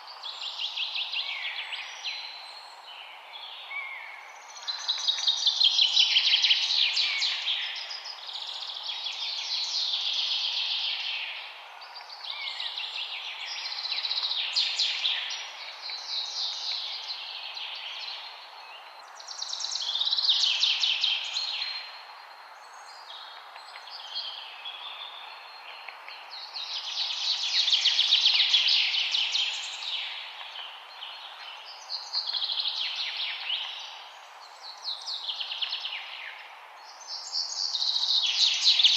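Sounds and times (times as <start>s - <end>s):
songbirds singing: 0.0s - 38.9s
steady background hiss: 0.0s - 38.9s.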